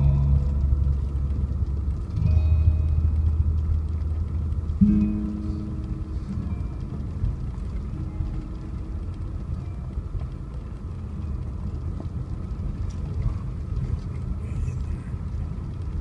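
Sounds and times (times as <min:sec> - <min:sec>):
vehicle rumbling on dirt road: 0:00.0 - 0:16.0.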